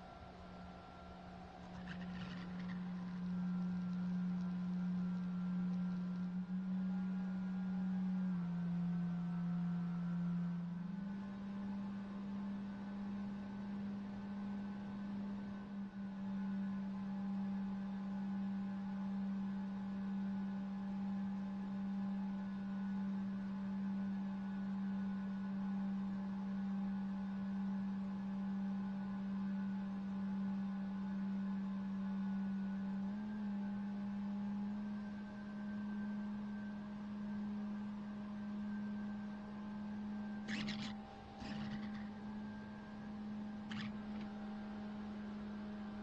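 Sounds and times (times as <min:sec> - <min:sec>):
small aircraft humming: 0:00.0 - 0:46.0.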